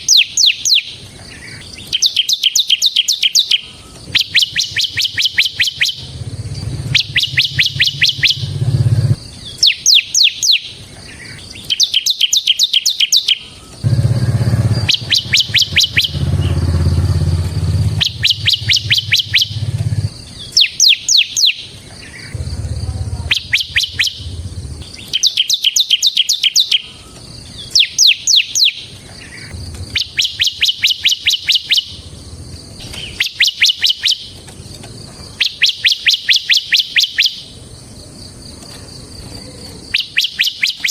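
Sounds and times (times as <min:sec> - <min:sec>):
bird rattling trill: 0:00.0 - 0:37.6, 0:39.8 - 0:40.9.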